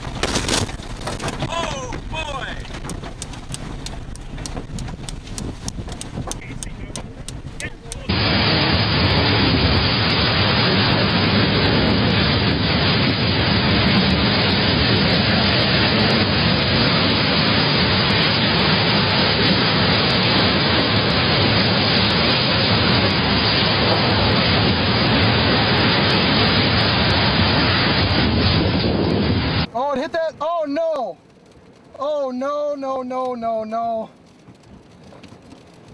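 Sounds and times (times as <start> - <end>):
rain: 0.0 - 24.3, 29.5 - 35.9
strong storm wind: 0.0 - 32.0.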